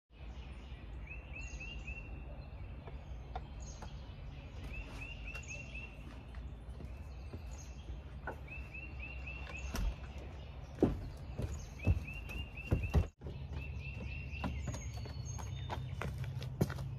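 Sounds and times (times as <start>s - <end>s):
songbird chirping: 0.1s - 16.9s.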